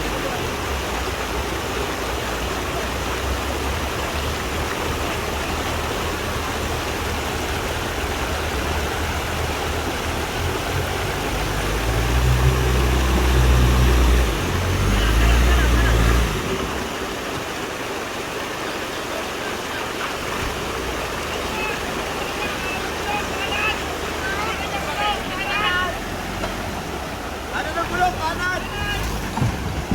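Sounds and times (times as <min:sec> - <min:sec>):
off-road vehicle engine running: 0:00.0 - 0:29.9
rushing waterfall: 0:00.0 - 0:29.9.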